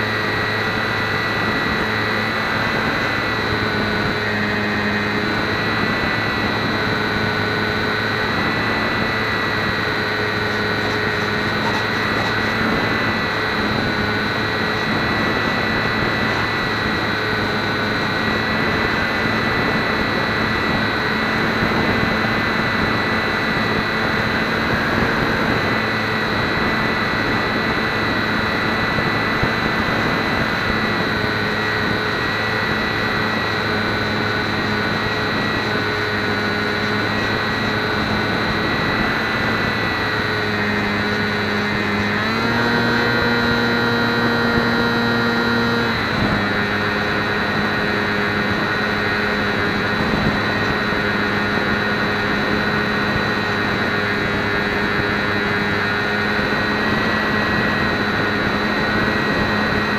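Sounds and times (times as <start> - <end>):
electric motor whine: 0.0 - 59.9.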